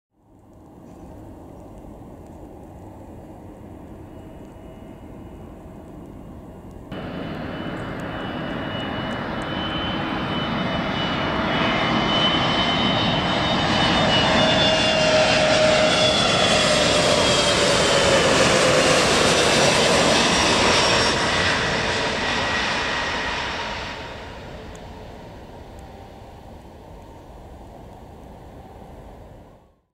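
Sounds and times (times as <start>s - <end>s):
jet engines on approach: 0.2s - 29.8s.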